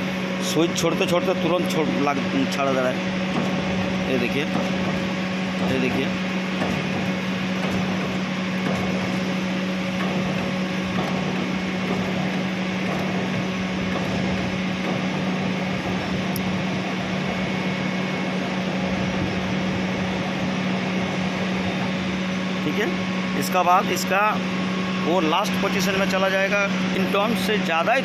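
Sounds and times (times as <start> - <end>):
low electric machinery hum: 0.0 - 28.0.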